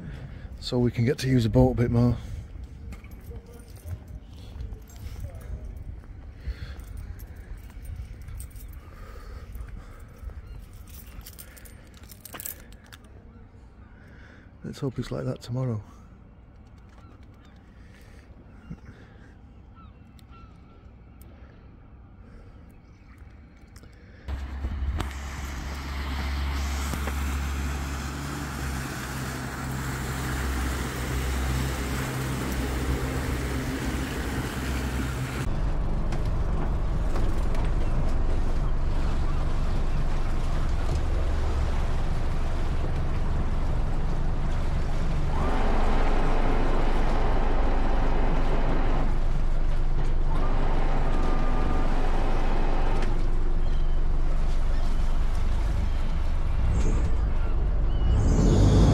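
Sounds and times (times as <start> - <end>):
boat engine droning: 0.0 - 58.9.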